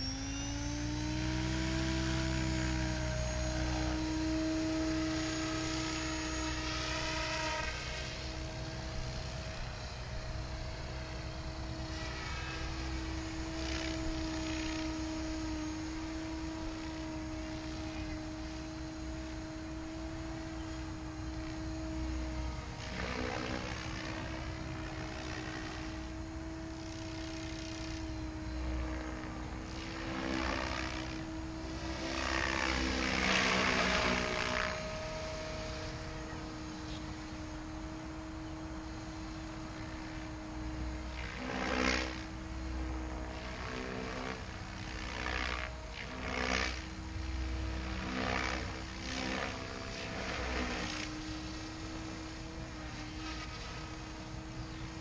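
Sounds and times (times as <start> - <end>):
model helicopter rotor hum: 0.0 - 55.0.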